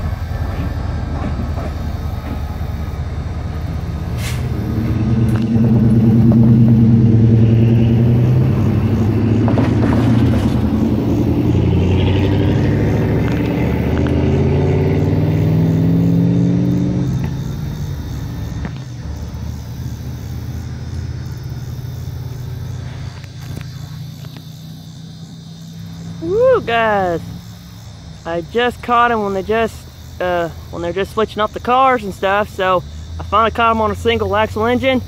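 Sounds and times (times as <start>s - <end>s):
diesel locomotive engine droning: 0.0s - 35.0s.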